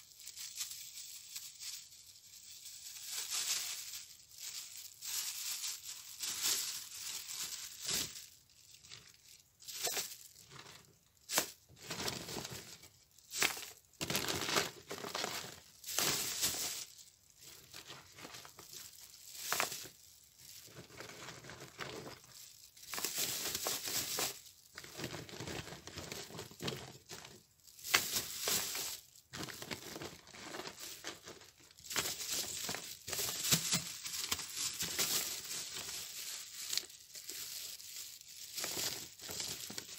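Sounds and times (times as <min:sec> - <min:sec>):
plastic bags crinkling: 0:00.0 - 0:39.9.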